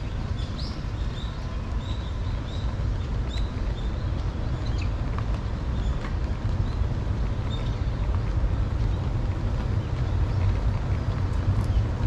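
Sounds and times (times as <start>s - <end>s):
small birds chirping: 0.0s - 10.8s
low background rumble: 0.0s - 12.0s.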